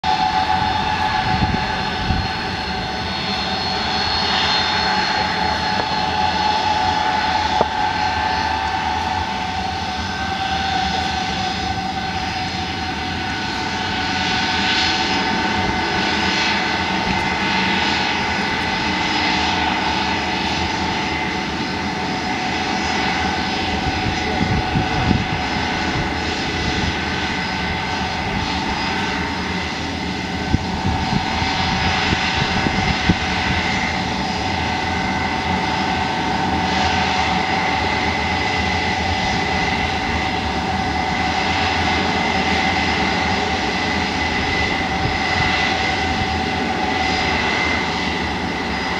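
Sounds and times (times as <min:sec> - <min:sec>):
jet engines whining: 0:00.0 - 0:48.9.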